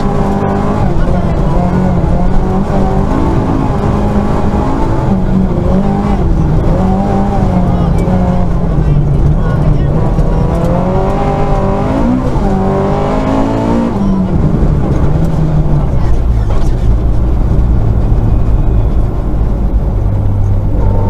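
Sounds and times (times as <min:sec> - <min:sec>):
rally car engine: 0:00.0 - 0:21.0
road and tyre noise: 0:00.0 - 0:21.0.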